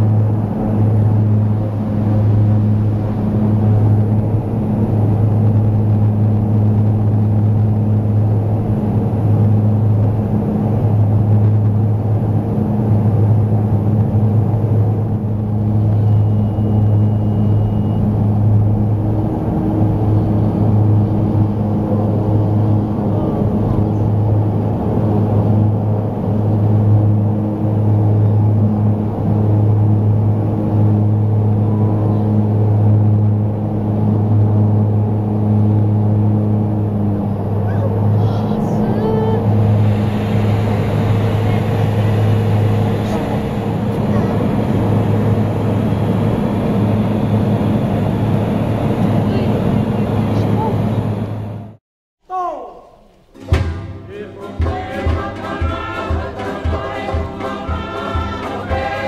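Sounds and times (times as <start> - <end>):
airliner engines droning: 0.0 - 51.8.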